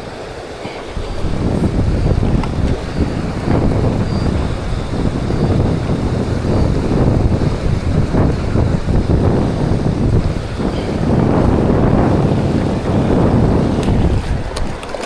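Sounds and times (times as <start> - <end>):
fast stream rushing: 0.0 - 15.0
wind buffeting microphone: 0.0 - 15.0.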